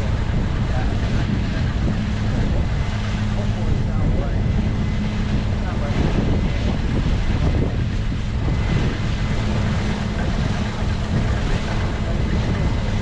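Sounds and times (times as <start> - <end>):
machinery engine droning: 0.0 - 13.0.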